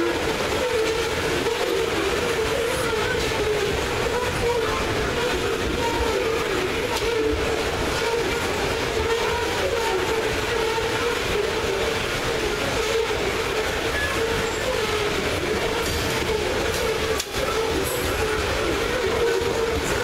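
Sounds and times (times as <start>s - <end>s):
train wheels rumbling and rattling: 0.0s - 20.0s.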